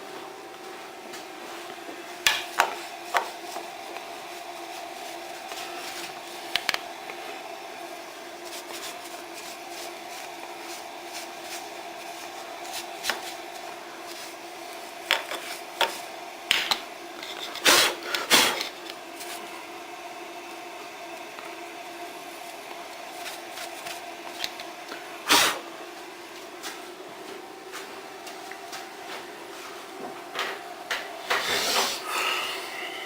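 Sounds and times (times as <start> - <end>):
steady electric hum: 0.0 - 33.0.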